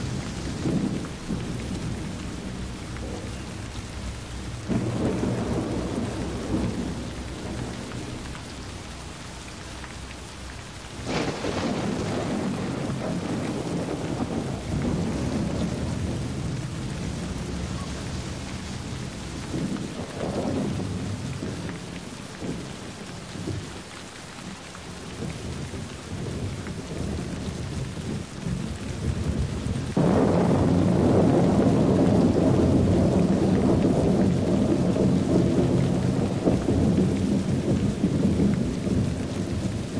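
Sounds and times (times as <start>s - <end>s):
rolling thunder: 0.0s - 9.3s, 10.9s - 22.8s, 25.2s - 39.9s
rain falling: 0.0s - 39.9s.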